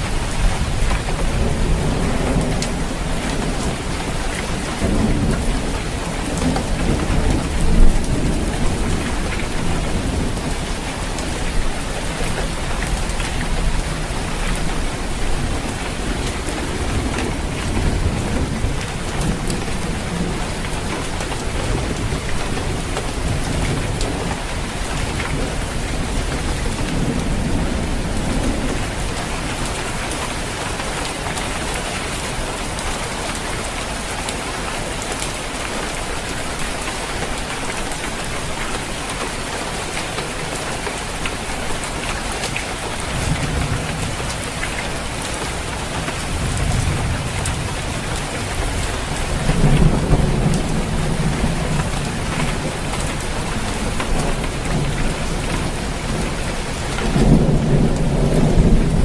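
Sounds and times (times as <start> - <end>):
low rumbles of thunder: 0.0 - 31.0, 42.6 - 59.0
rain falling on a roof: 0.0 - 59.0.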